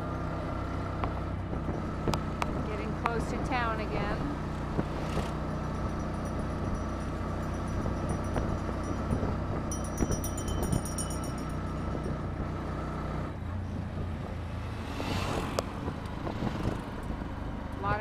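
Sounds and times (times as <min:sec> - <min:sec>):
auto-rickshaw engine running: 0:00.0 - 0:18.0
road noise: 0:00.0 - 0:18.0.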